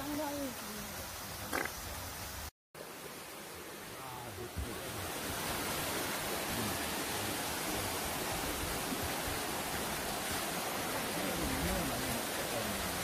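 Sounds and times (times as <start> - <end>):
stream water rushing over boulders: 0.0 - 13.0.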